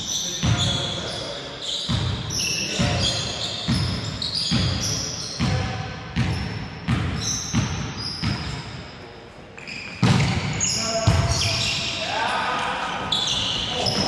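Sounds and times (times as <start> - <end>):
sneaker squeaks on court floor: 0.0 - 9.0, 9.6 - 14.0.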